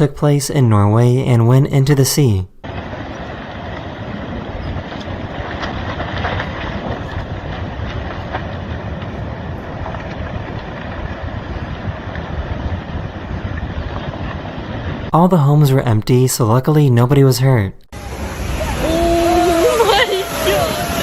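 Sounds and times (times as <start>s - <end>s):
landslide rumbling: 0.0s - 16.5s, 17.9s - 21.0s.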